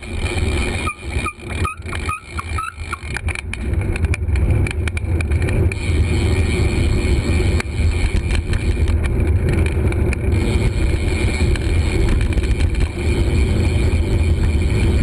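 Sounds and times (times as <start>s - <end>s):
road rumble: 0.0s - 15.0s.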